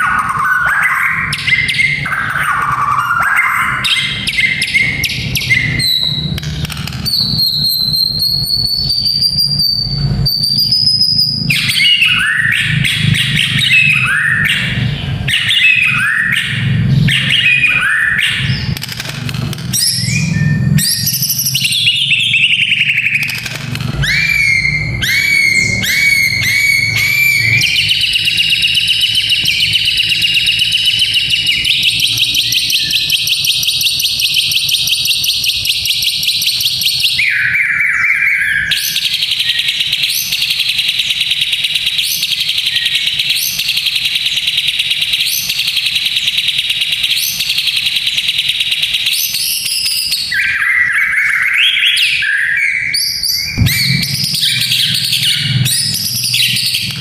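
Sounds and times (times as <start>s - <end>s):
bird whistled phrases: 0.0s - 6.4s, 7.0s - 18.8s, 19.7s - 23.4s, 24.0s - 56.9s.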